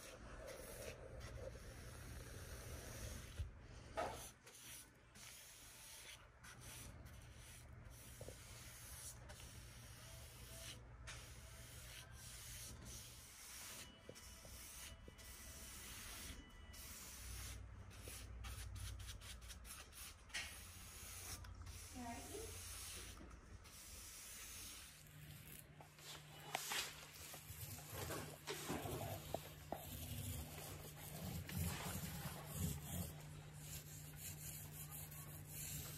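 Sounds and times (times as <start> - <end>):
paintbrush strokes on wood: 0.0 - 35.9.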